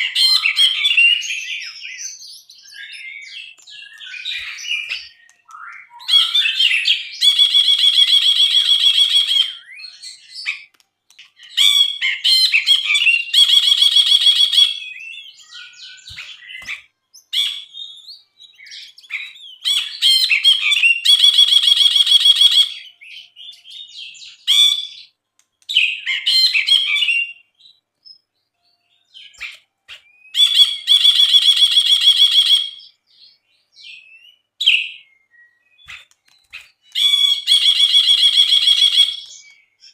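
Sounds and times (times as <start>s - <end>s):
bird singing varied chirps: 0.0s - 39.9s.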